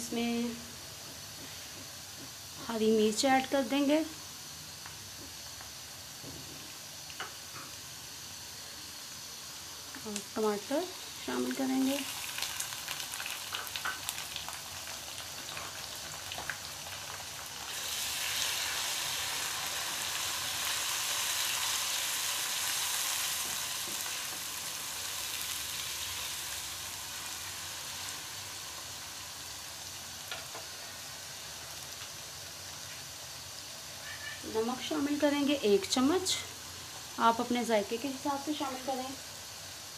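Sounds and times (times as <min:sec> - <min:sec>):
vegetables sizzling in hot oil: 0:00.0 - 0:39.9.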